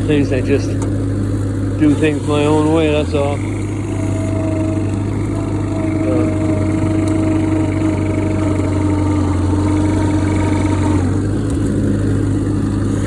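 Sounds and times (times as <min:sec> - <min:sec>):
plow pushing snow: 0:00.0 - 0:13.0
tractor engine running: 0:00.0 - 0:13.0.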